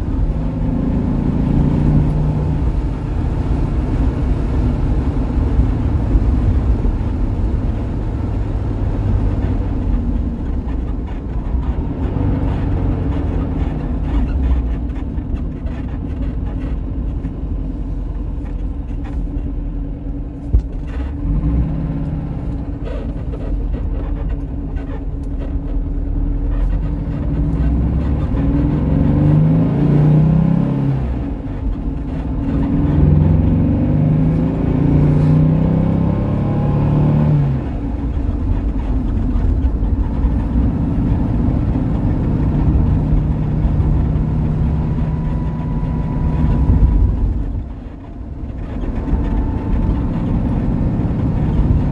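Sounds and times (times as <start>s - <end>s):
car engine pulling: 0.0s - 51.9s
road noise: 0.0s - 51.9s.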